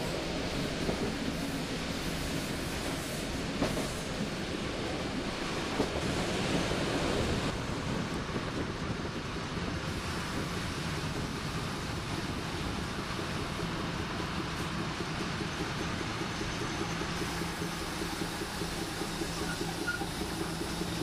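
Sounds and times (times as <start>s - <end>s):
railcar wheels and engine rumble: 0.0s - 21.0s.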